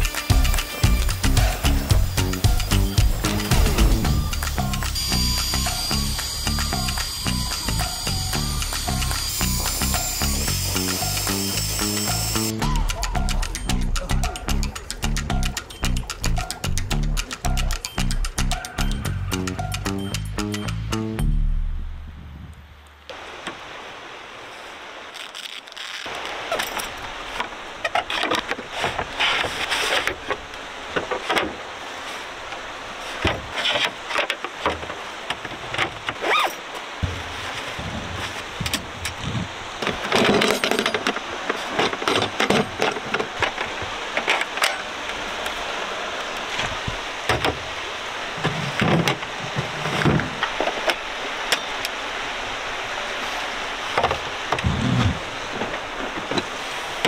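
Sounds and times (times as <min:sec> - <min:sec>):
steady rushing hiss: 0:00.0 - 0:21.1, 0:21.9 - 0:40.2, 0:41.1 - 0:57.0.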